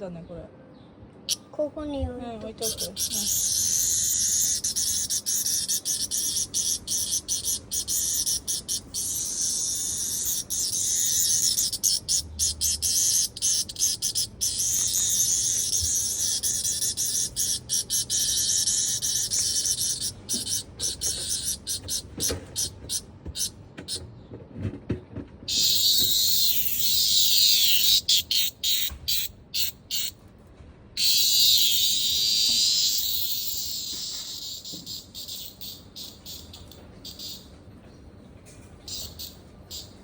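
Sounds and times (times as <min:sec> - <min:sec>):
cicada buzzing: 0:02.6 - 0:24.0, 0:25.5 - 0:30.1, 0:31.0 - 0:37.5, 0:38.9 - 0:40.0.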